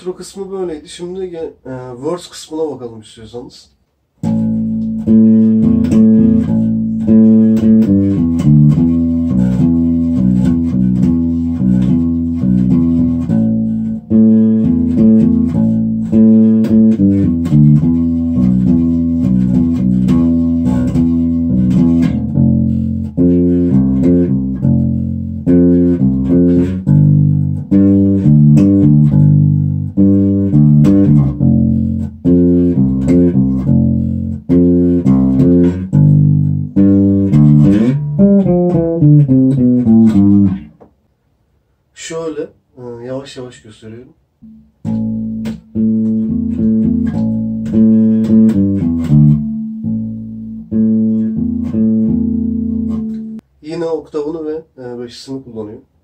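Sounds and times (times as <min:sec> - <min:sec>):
electric bass plucked notes: 0:04.2 - 0:40.8, 0:44.4 - 0:53.5.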